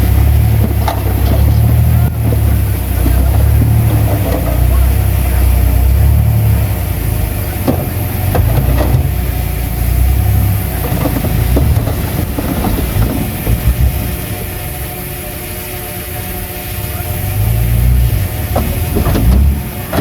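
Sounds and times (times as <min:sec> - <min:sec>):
metallic clanks: 0:00.0 - 0:14.6, 0:18.3 - 0:20.0
short thumps: 0:00.0 - 0:14.6, 0:18.2 - 0:20.0
bulldozer engine rumbling: 0:00.0 - 0:20.0.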